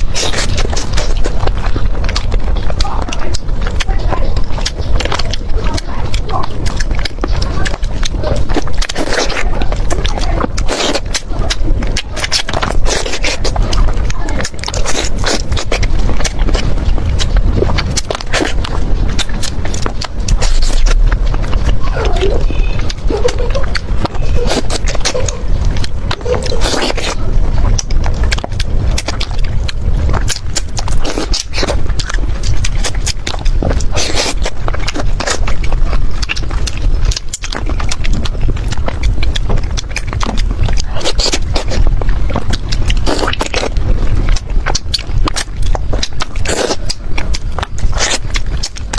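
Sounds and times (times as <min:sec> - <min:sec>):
chewing with bone crunching: 0:00.0 - 0:48.9.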